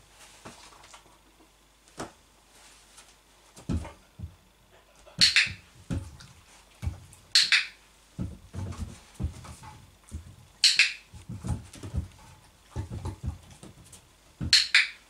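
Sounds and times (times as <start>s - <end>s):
soft knocks and shuffling: 0.0s - 7.3s, 7.9s - 14.6s.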